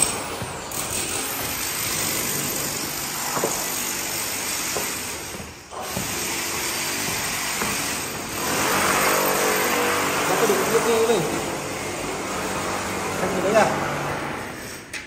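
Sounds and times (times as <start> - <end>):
power tool grinding concrete: 0.0 - 15.0.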